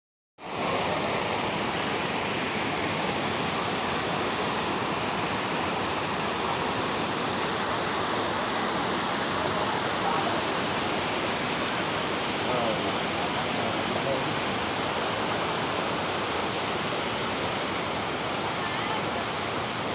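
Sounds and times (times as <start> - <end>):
rushing water: 0.4 - 19.9.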